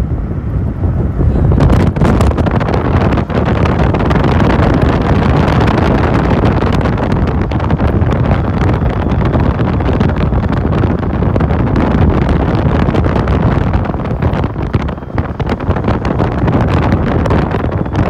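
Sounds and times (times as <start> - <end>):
motorcycle running: 0.0 - 18.0
road noise: 0.0 - 18.0
wind buffeting microphone: 0.0 - 18.0.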